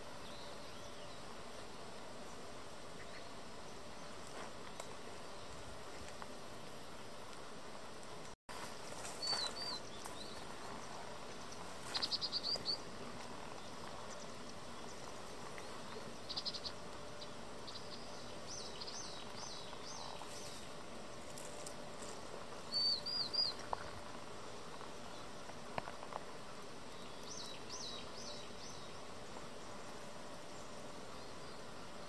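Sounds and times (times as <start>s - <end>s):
steady background hiss: 0.0s - 32.0s.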